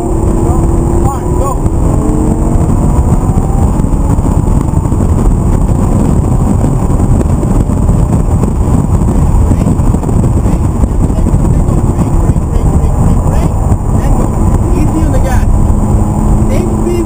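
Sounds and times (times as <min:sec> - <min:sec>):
car engine running hard: 0:00.0 - 0:17.0
road and wind noise: 0:00.0 - 0:17.0.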